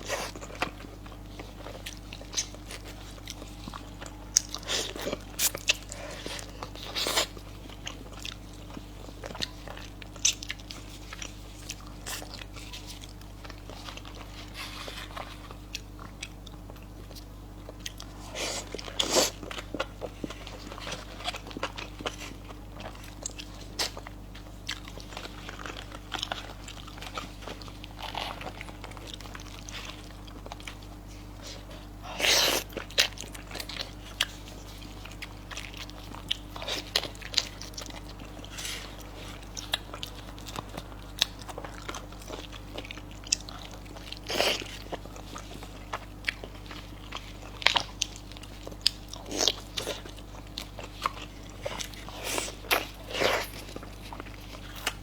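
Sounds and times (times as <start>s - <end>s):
chewing and mouth clicks: 0.0s - 55.0s
steady low hum: 0.0s - 55.0s.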